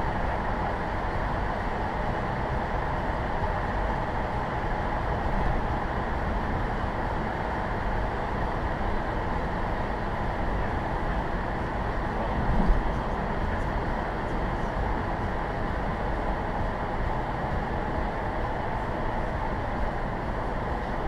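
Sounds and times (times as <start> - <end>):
car road noise in tunnel: 0.0 - 21.0.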